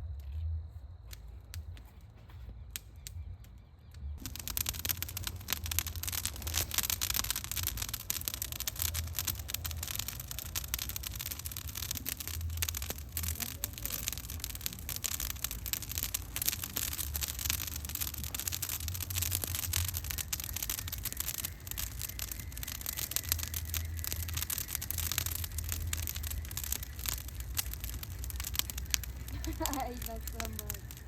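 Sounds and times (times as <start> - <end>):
bonfire crackling: 0.0 - 31.0
low rumble: 3.2 - 31.0.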